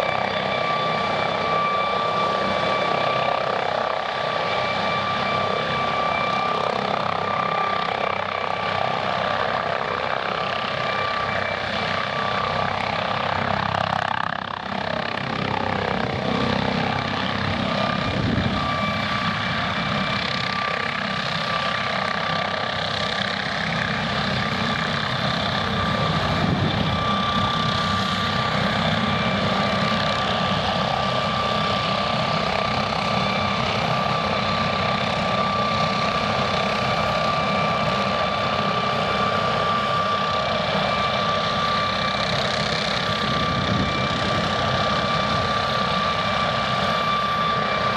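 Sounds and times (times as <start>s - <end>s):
helicopter engine whine: 0.0s - 47.9s
helicopter rotor noise: 0.0s - 47.9s.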